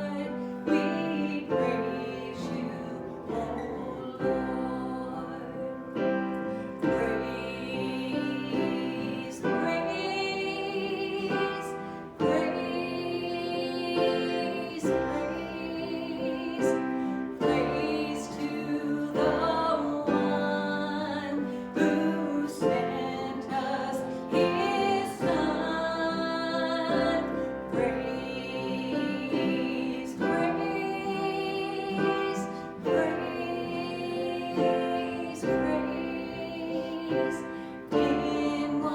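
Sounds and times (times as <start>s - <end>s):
congregation singing: 0.0s - 38.9s
piano accompaniment: 0.0s - 38.9s.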